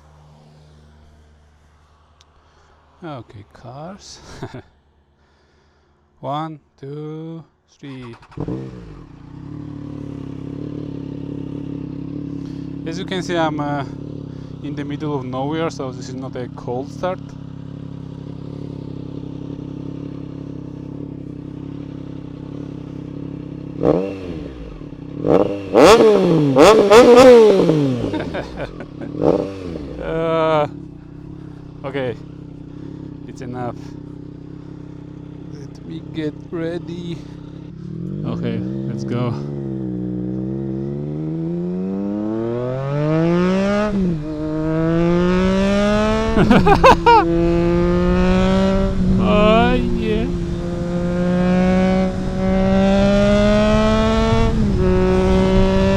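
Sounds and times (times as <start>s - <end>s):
motorcycle engine idling and revving: 0.0s - 3.4s, 7.9s - 55.9s.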